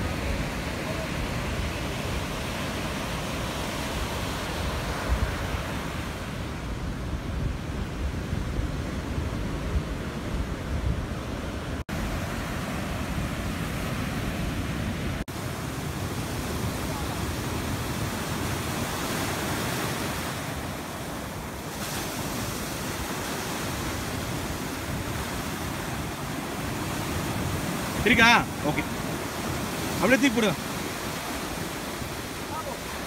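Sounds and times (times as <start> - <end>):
ocean waves breaking on beach: 0.0 - 33.0.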